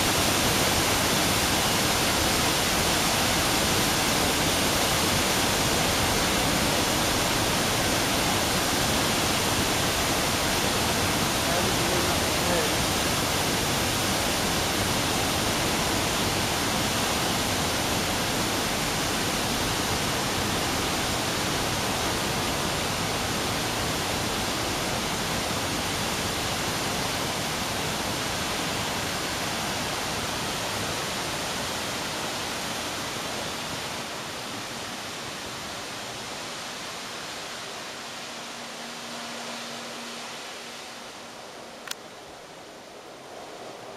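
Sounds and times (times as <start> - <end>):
water jets roaring into basin: 0.0 - 43.9.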